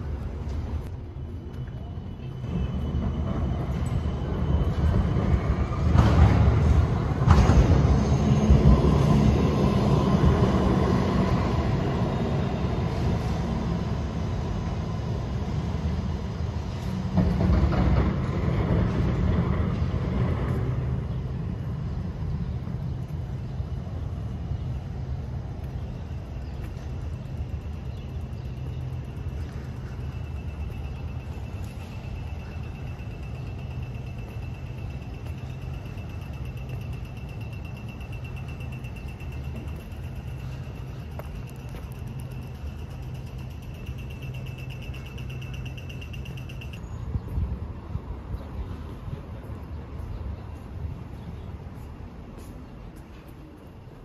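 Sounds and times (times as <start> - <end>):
city street noise: 0.0 - 54.0
train rumbling and clattering past: 0.0 - 54.0.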